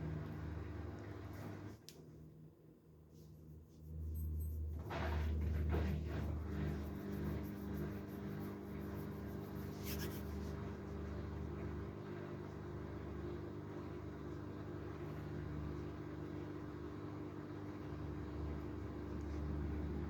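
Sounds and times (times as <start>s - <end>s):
washing machine running: 0.0s - 1.8s, 3.3s - 20.0s.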